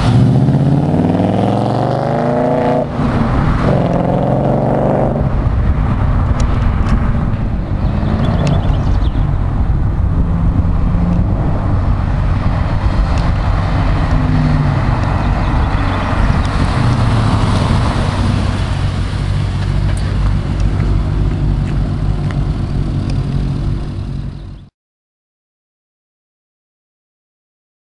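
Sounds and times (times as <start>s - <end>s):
car exhaust running: 0.0s - 24.7s.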